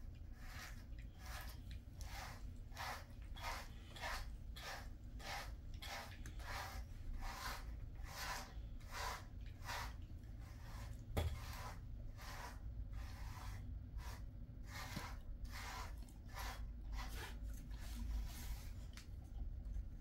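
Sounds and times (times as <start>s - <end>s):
brush stroking dog fur: 0.1s - 19.1s.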